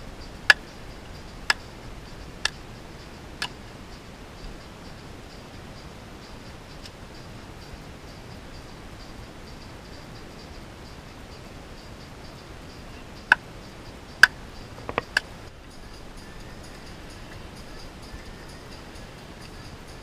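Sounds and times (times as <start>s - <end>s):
faint regular ticking: 0.0s - 20.0s
steady hiss: 0.0s - 20.0s.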